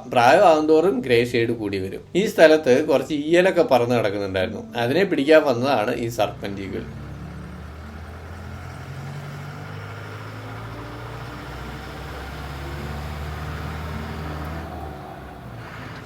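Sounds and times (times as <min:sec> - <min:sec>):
vehicle engine humming: 0:01.5 - 0:16.0.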